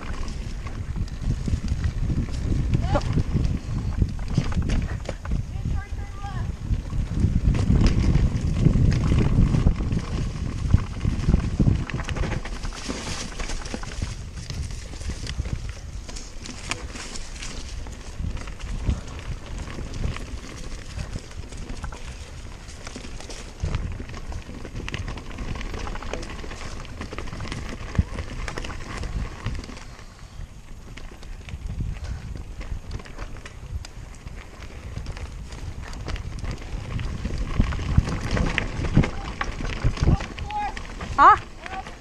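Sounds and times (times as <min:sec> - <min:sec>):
bike rattling and clattering: 0:00.0 - 0:42.0
tyres on dirt and stones: 0:00.0 - 0:42.0.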